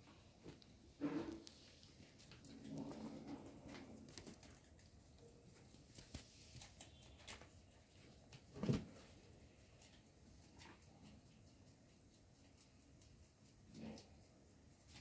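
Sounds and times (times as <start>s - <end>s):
rabbits rustling and nibbling leaves: 0.0s - 15.0s.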